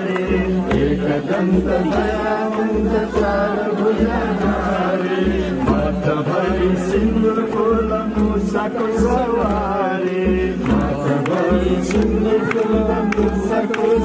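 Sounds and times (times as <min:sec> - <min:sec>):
group chanting devotional song: 0:00.0 - 0:14.0
man singing into microphone: 0:00.0 - 0:14.0.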